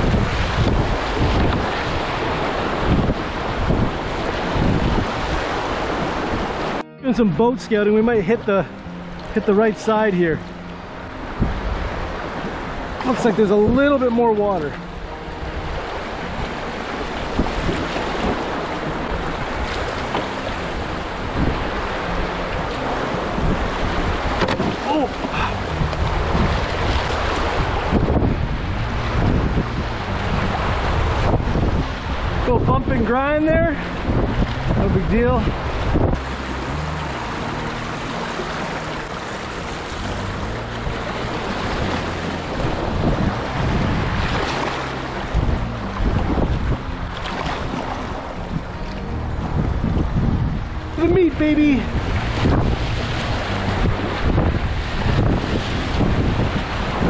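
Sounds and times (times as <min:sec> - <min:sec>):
paddle strokes in water: 0:00.0 - 0:06.8, 0:09.2 - 0:32.5, 0:35.5 - 0:57.0
river rapids rushing: 0:00.0 - 0:57.0
wind buffeting microphone: 0:00.0 - 0:57.0.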